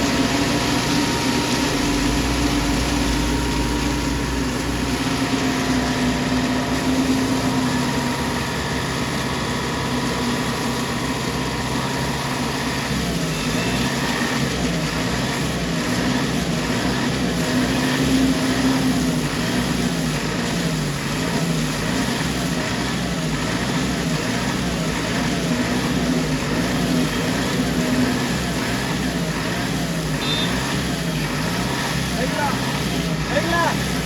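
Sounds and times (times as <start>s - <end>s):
heavy machinery diesel engine: 0.0s - 34.0s.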